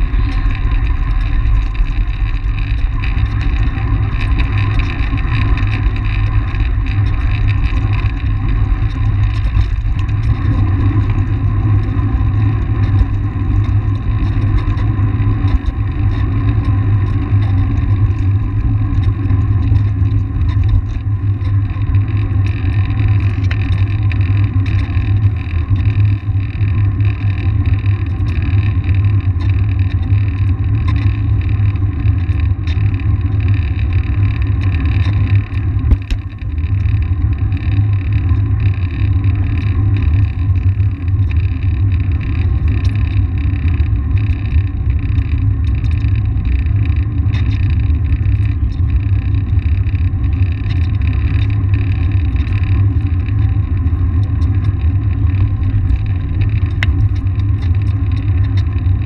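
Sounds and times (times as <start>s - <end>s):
faint crackle: 0.0s - 59.0s
wind and riding rumble: 0.0s - 59.0s.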